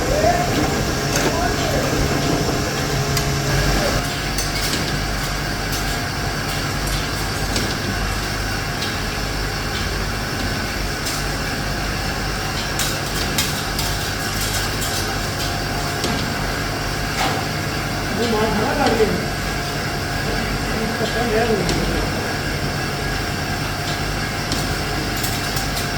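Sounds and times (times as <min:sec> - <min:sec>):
factory machinery humming: 0:00.0 - 0:25.9.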